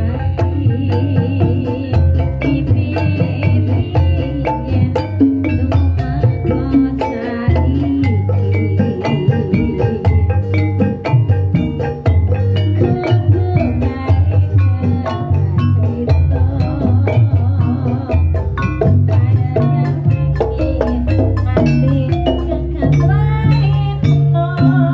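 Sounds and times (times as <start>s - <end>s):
drum beat: 0.0s - 24.9s
gamelan music: 0.0s - 24.9s
mallet instrument strikes: 0.0s - 24.9s
sliding melodic line: 0.0s - 24.9s.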